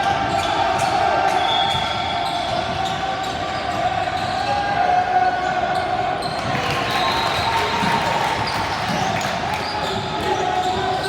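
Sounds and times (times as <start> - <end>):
echoing hubbub of voices: 0.0 - 11.0.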